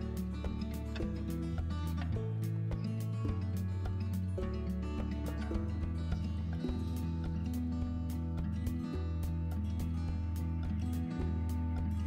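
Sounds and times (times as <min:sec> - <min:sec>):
background music with bass and beat: 0:00.0 - 0:12.0.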